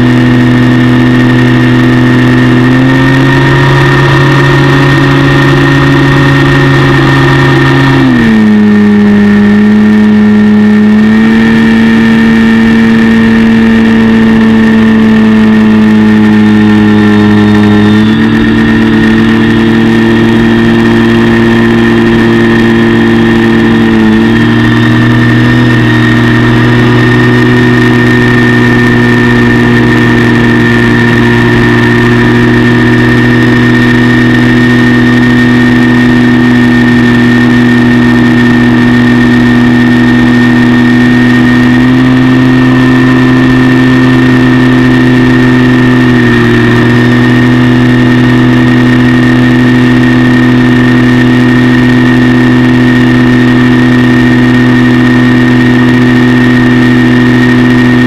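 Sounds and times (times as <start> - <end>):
model plane motor and propeller: 0.0 - 58.0.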